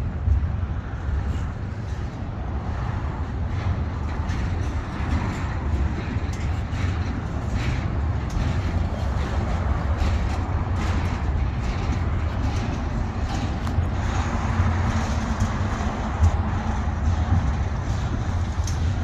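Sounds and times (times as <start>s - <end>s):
train wheels rumbling on rails: 0.0s - 19.0s
freight cars clanking: 0.1s - 19.0s.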